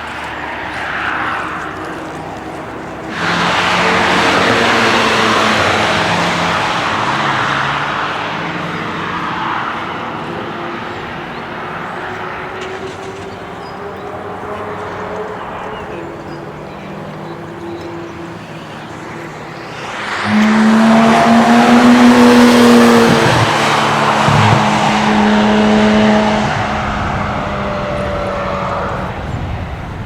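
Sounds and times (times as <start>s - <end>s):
car passing at speed: 0.0s - 30.0s.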